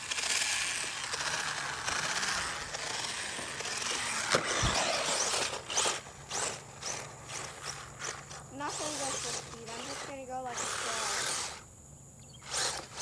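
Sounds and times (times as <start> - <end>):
toy truck motor whirring: 0.0 - 11.7, 12.3 - 13.0.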